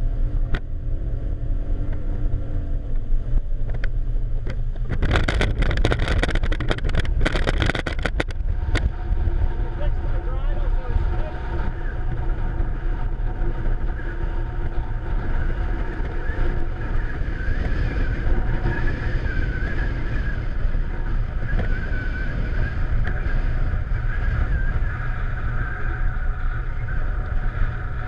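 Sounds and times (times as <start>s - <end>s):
outboard motors running: 0.0s - 28.0s.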